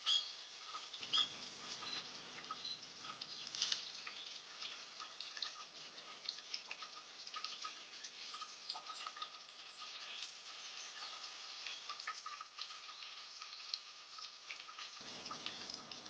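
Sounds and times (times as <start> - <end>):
songbirds chipping and ticking: 0.0 - 13.7.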